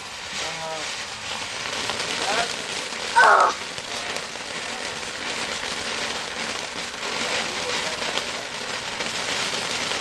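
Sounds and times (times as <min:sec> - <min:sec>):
firework fountain hissing and crackling: 0:00.0 - 0:10.0.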